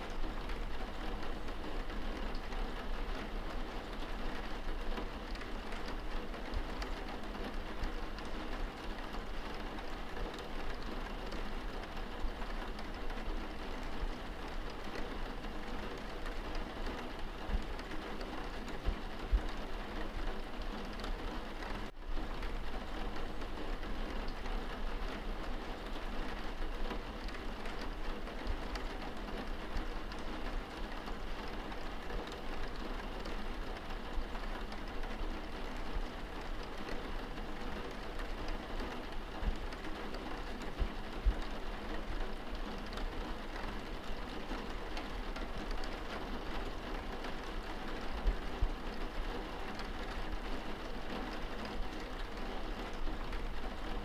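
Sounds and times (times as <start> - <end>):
rain on window glass: 0.0 - 54.0.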